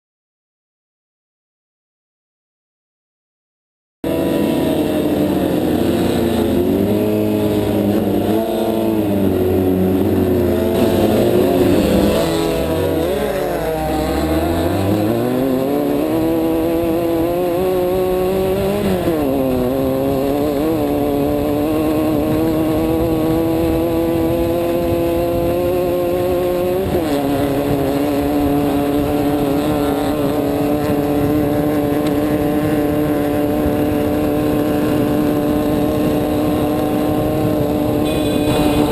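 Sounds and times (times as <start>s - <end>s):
race car engine revving: 4.0s - 38.9s.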